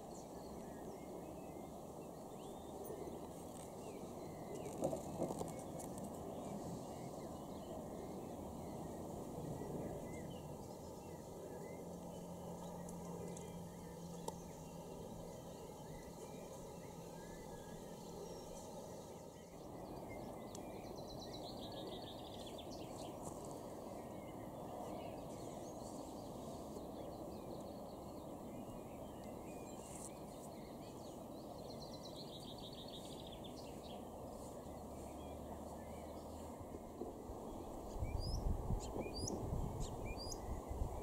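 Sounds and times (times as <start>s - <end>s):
songbird singing: 0.0s - 41.0s
steady background noise: 0.0s - 41.0s.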